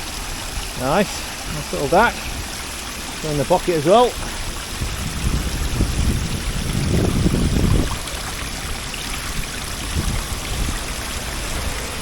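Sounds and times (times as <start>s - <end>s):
waterfall rushing over rock: 0.0s - 12.0s.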